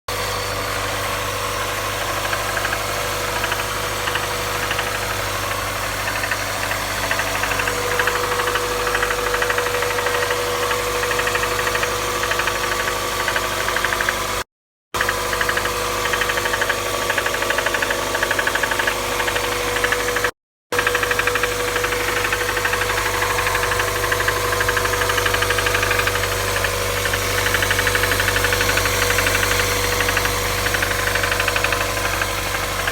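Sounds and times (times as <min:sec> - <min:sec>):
car engine knocking: 0:00.5 - 0:14.4, 0:15.0 - 0:32.9.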